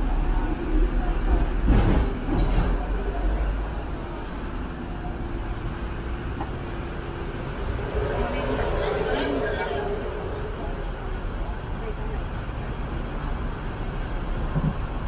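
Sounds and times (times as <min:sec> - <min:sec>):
tram clatters: 0:00.0 - 0:15.0
tram rumbling on rails: 0:00.0 - 0:15.0.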